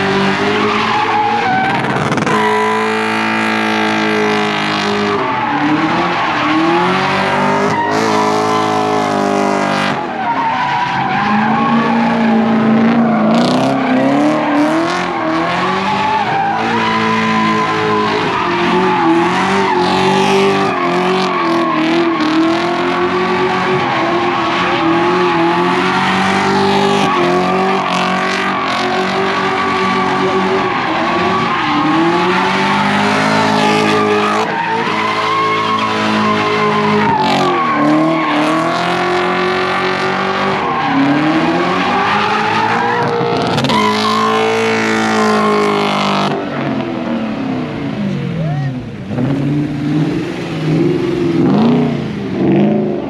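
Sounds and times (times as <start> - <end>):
tyres squealing on pavement: 0.0 - 46.8
car engines revving high: 0.0 - 53.0.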